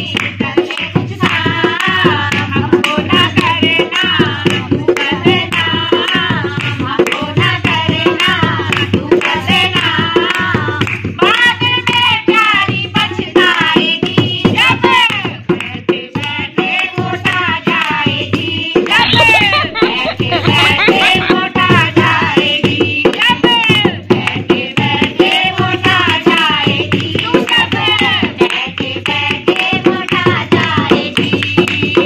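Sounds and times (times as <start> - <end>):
drum beating a steady rhythm: 0.0 - 32.0
women singing a folk song: 0.0 - 32.0
hands clapping: 0.1 - 14.1, 18.8 - 32.0.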